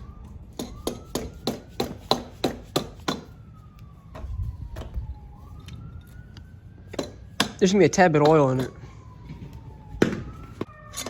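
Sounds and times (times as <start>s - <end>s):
faint siren wailing: 0.0s - 11.0s.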